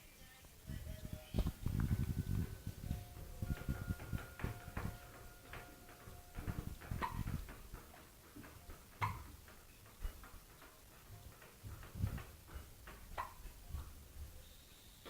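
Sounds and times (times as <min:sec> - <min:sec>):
faint low bumps: 0:00.5 - 0:14.4.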